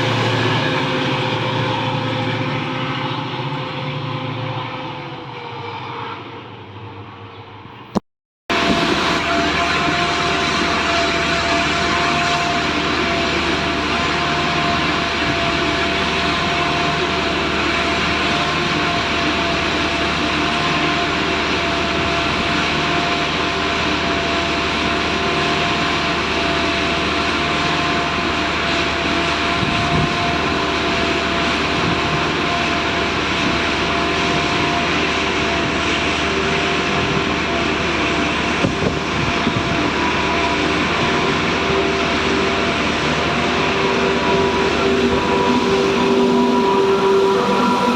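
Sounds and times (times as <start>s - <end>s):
train rumbling: 0.0s - 6.0s, 8.5s - 47.9s
steady train whine: 0.0s - 47.9s.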